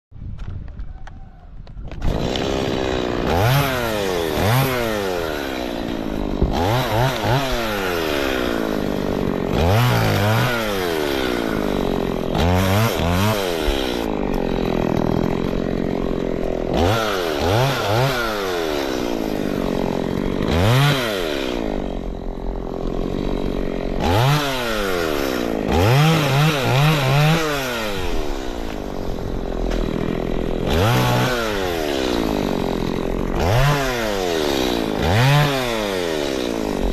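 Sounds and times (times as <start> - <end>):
chainsaw engine revving: 1.9 - 36.9.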